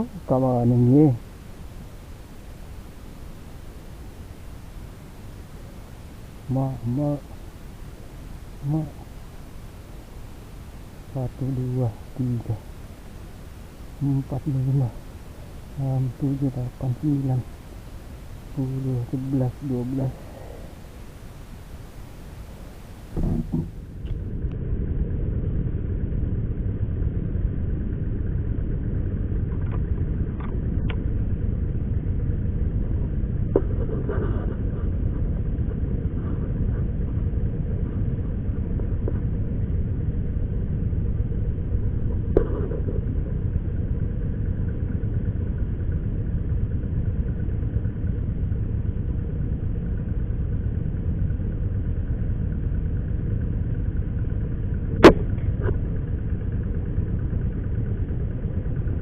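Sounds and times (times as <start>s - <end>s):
low rumbling noise: 0.0s - 59.0s.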